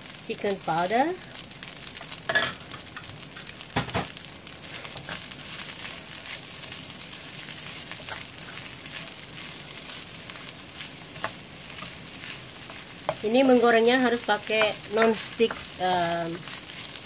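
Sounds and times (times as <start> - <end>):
rice sizzling in a frying pan: 0.0 - 17.0.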